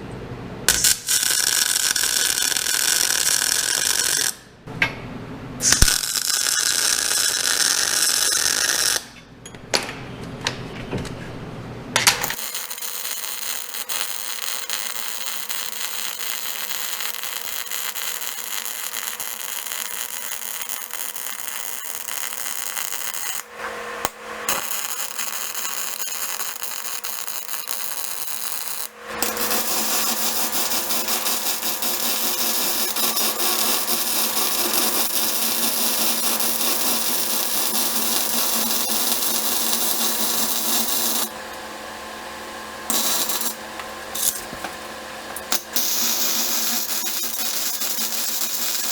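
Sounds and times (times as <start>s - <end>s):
arc welding crackle: 0.7s - 4.4s, 5.6s - 9.1s, 12.2s - 41.4s, 42.9s - 44.7s, 45.4s - 48.9s.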